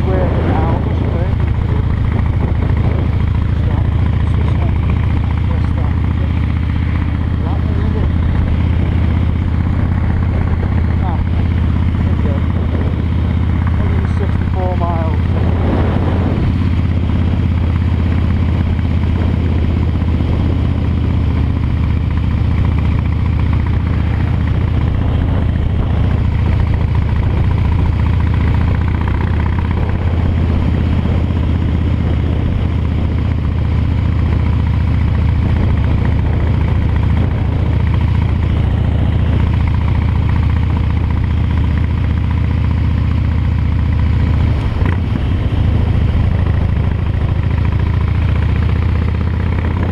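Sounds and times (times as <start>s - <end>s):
motorcycle engine rumbling: 0.0s - 49.9s.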